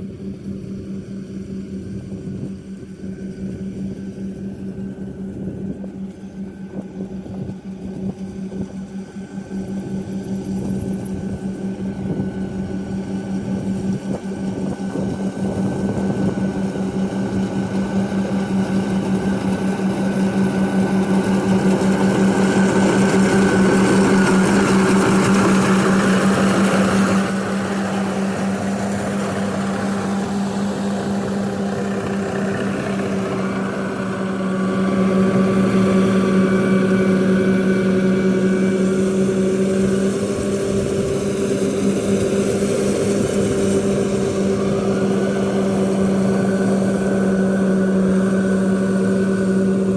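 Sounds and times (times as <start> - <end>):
combine harvester droning hum: 0.0 - 49.9.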